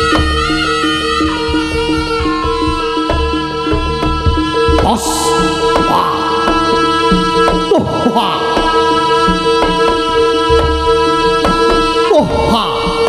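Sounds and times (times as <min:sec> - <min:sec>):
hand drums playing: 0:00.0 - 0:13.0
held reedy note: 0:00.0 - 0:13.0.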